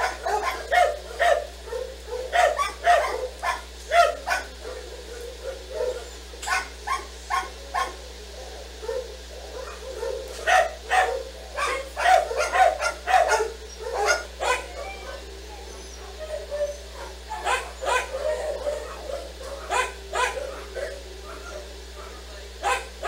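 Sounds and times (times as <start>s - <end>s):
dogs barking: 0.0s - 23.0s.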